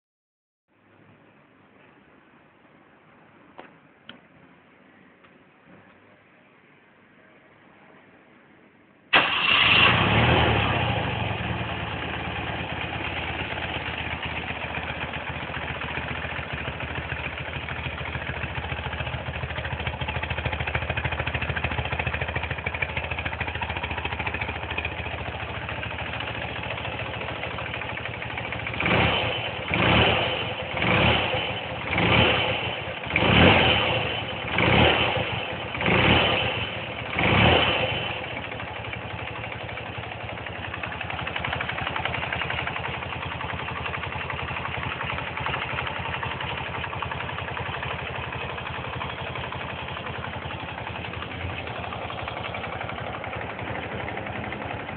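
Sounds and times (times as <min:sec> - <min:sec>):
motorcycle engine starting and idling: 0:09.1 - 0:54.9.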